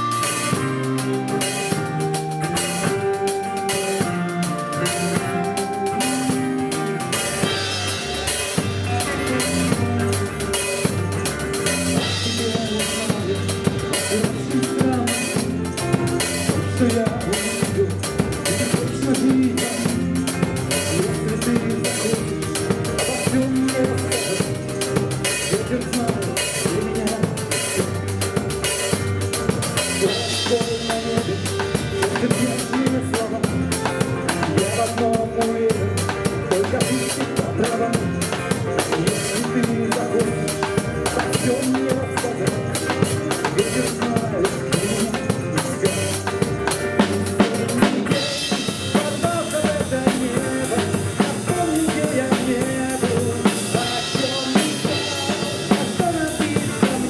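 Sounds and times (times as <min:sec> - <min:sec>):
backing song recording: 0:00.0 - 0:57.0
drum kit rock beat: 0:00.0 - 0:57.0.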